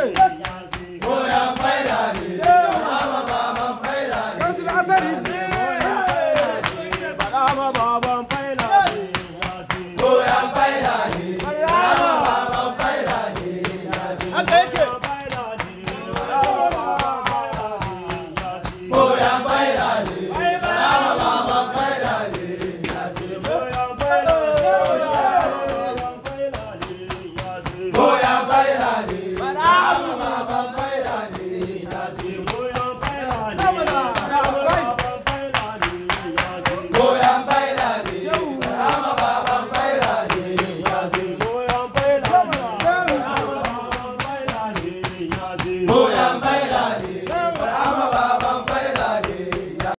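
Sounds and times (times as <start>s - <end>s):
fast percussive beat: 0.0s - 50.0s
men chanting a song: 0.0s - 50.0s.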